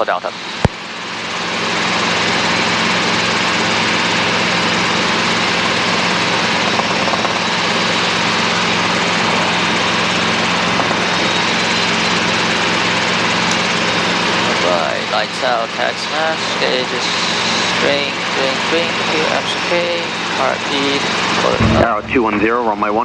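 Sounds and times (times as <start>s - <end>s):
helicopter engine and rotor drone: 0.0s - 22.6s
low hum: 0.3s - 23.0s.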